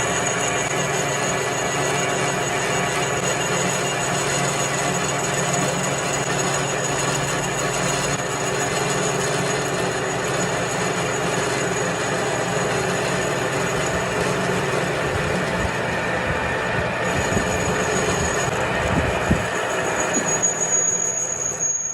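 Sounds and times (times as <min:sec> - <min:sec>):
workshop machinery humming: 0:00.0 - 0:21.6.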